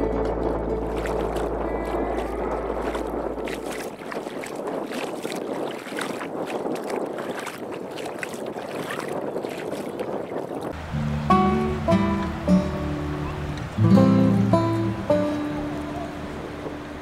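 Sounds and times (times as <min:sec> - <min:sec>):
feet splashing through shallow water: 0:00.0 - 0:17.0.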